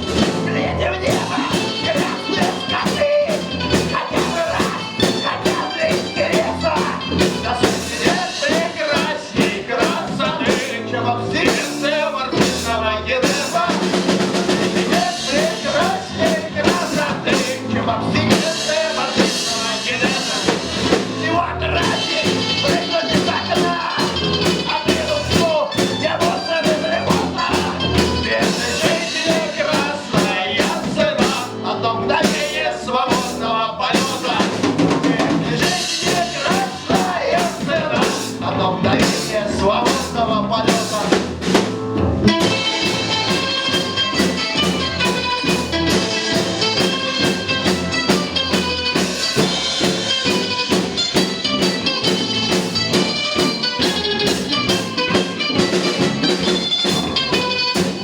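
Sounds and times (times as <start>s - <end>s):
drum kit beat: 0.0s - 58.0s
melodic lead line: 0.0s - 58.0s
rock band playing: 0.0s - 58.0s.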